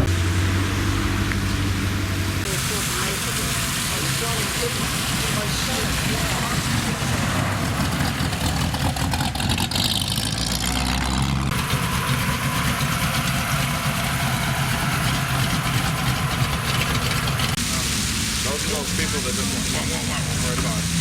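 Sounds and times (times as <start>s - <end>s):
car engine droning: 0.0s - 21.0s
road or wind noise: 0.0s - 21.0s.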